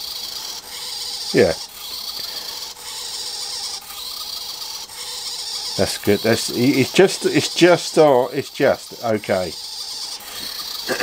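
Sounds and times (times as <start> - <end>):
rasping rubbing strokes: 0.0 - 11.0.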